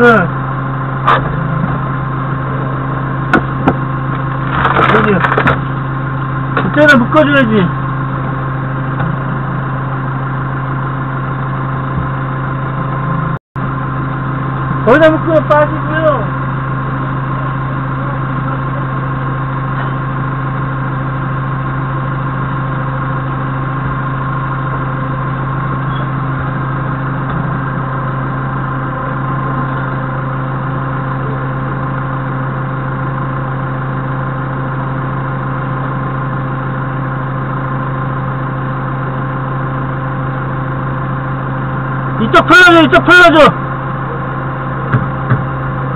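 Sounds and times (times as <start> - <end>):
forklift engine idling: 0.0 - 45.9.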